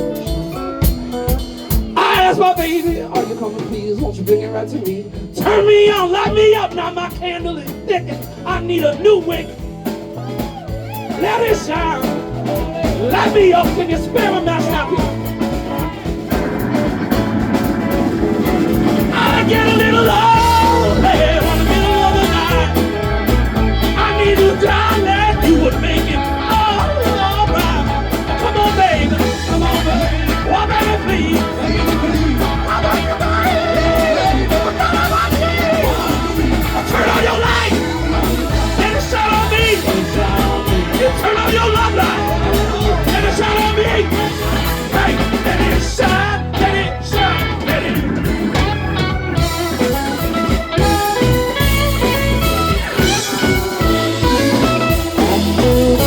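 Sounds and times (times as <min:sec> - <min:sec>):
person singing: 0:00.0 - 0:16.9, 0:17.5 - 0:48.6, 0:50.8 - 0:56.0
live rock band playing: 0:00.0 - 0:56.0.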